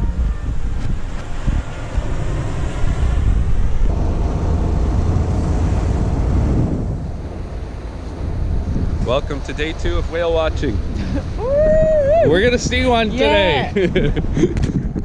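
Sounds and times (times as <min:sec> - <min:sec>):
boat running through water: 0:00.0 - 0:15.0
wind buffeting microphone: 0:00.0 - 0:15.0.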